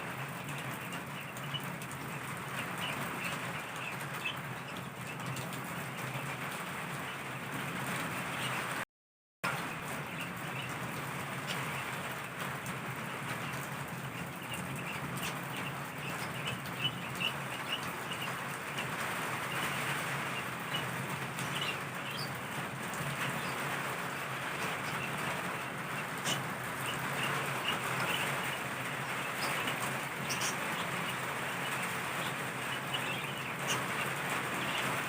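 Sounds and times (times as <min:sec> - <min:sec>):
heavy rain: 0:00.0 - 0:08.8, 0:09.5 - 0:35.0.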